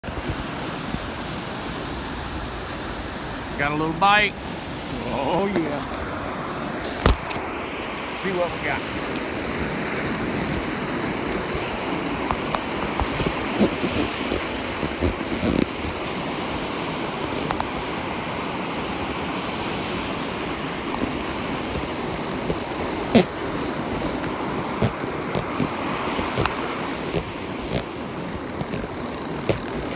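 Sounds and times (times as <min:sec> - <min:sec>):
surf breaking on beach: 0:00.0 - 0:29.9.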